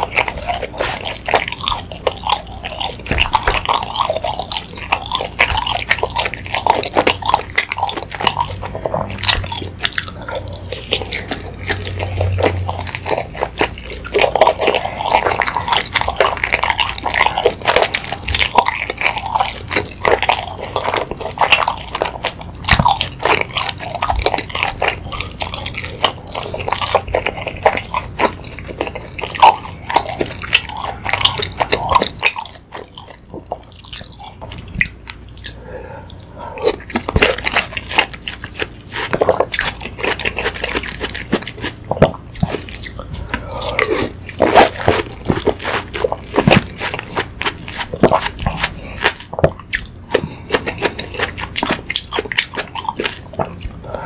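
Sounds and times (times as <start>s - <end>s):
wet mouth chewing: 0.0s - 54.0s.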